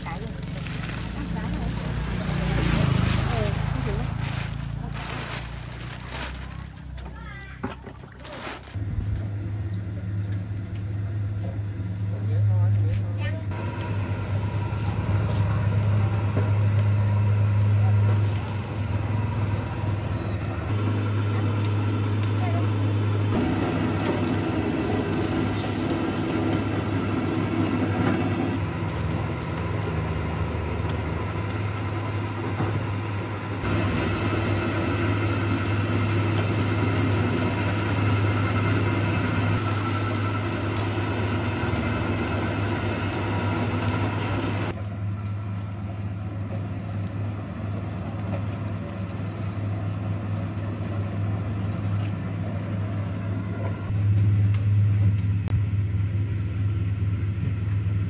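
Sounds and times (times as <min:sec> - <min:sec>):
juicing machine motor humming: 0:00.0 - 0:58.0.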